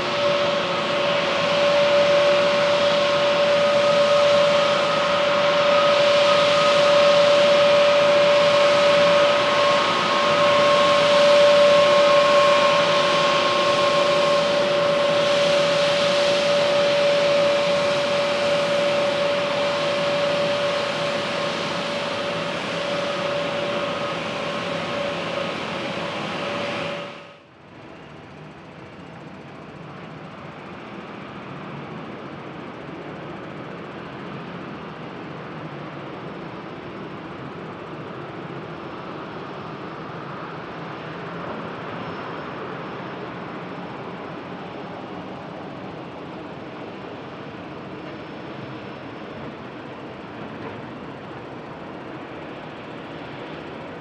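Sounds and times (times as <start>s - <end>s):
jet airliner engines whining: 0.0s - 54.0s.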